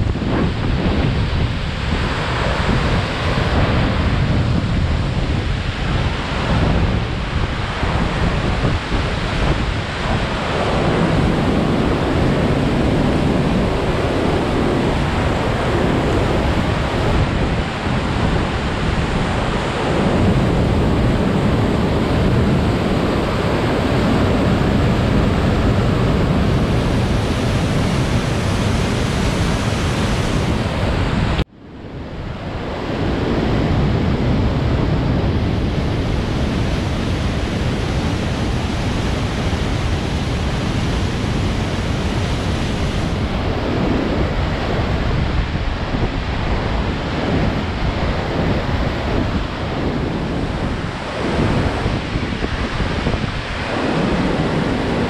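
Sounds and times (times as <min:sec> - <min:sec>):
waterfall roaring: 0:00.0 - 0:31.4, 0:34.9 - 0:55.0.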